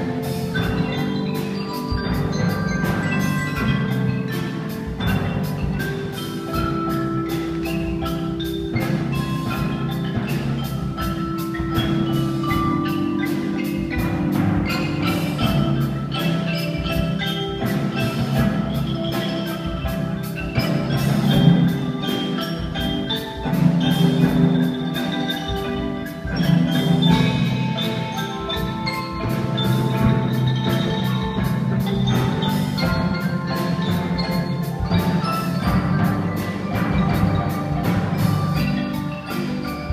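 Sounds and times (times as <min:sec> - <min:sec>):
band playing mallet percussion: 0:00.0 - 0:39.9.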